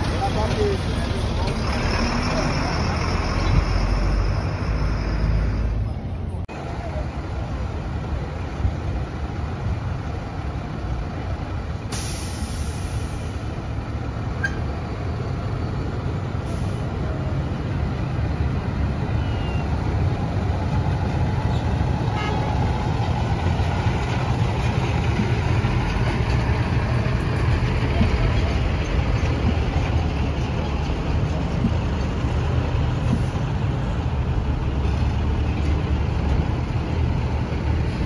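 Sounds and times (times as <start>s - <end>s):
bus diesel engines rumbling: 0.0s - 38.0s.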